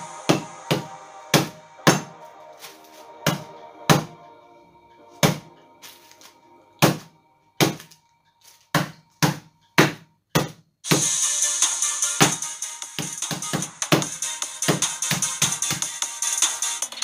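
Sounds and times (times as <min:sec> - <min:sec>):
faint music with held notes: 0:00.0 - 0:10.3, 0:10.9 - 0:17.0.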